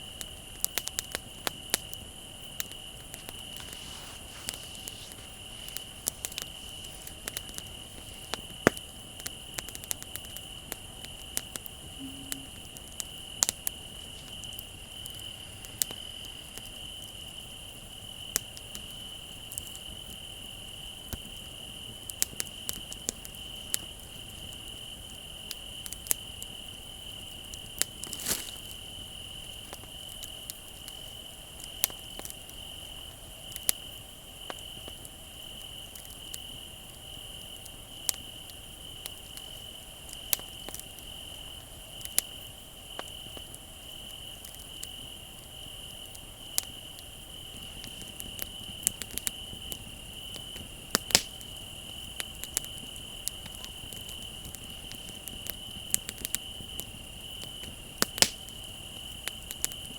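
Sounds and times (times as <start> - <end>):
bonfire crackling and popping: 0.0 - 59.9
crickets trilling: 0.0 - 59.9.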